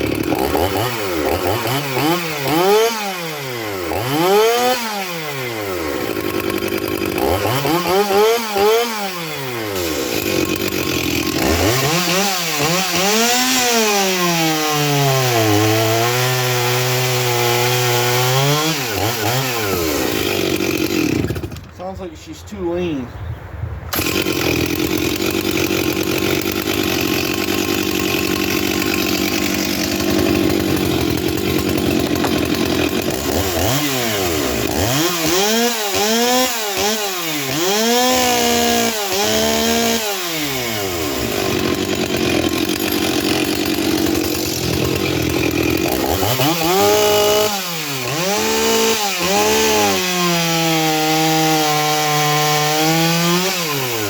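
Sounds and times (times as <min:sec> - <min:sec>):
chainsaw revving: 0:00.0 - 0:21.9, 0:23.9 - 0:54.0.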